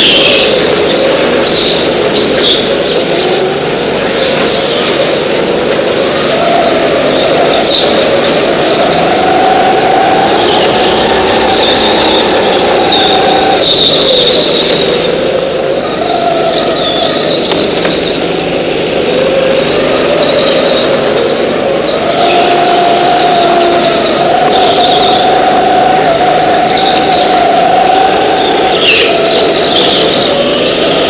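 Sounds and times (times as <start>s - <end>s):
go-kart engines running: 0.0s - 31.0s
tyres squealing: 0.0s - 31.0s.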